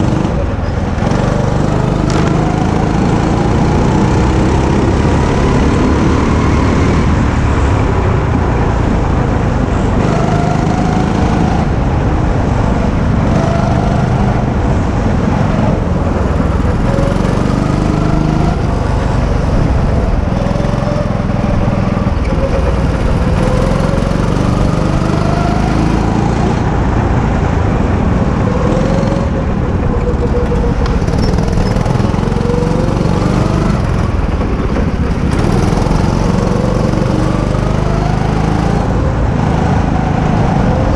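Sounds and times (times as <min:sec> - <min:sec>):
go-kart engine accelerating: 0:00.0 - 0:40.9.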